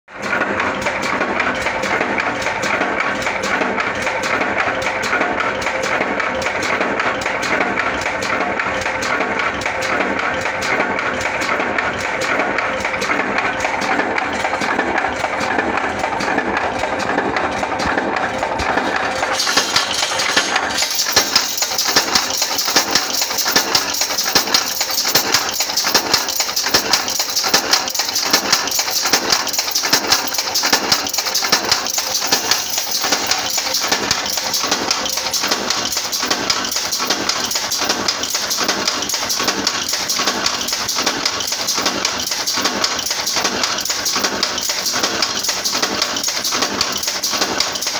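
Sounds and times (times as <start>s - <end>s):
power press stamping metal: 0.2s - 47.9s.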